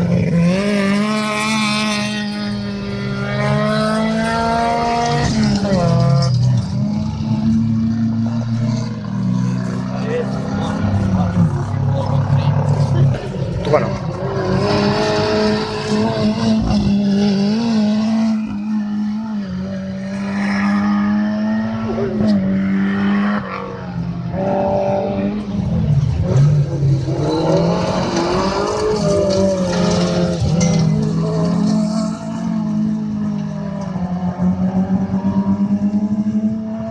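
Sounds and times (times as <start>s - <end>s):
race car engines revving hard: 0.0s - 36.9s.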